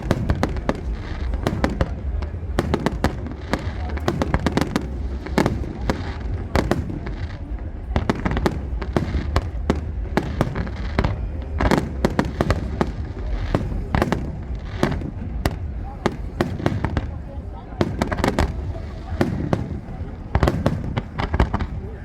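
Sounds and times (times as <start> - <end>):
fireworks bangs and crackling: 0.0 - 22.0
low rumble: 0.0 - 22.0.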